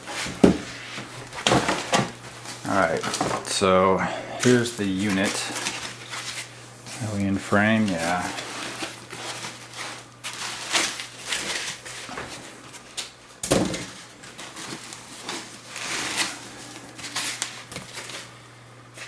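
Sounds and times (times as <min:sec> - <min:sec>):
plastic and foam packaging rustling: 0:00.0 - 0:19.0.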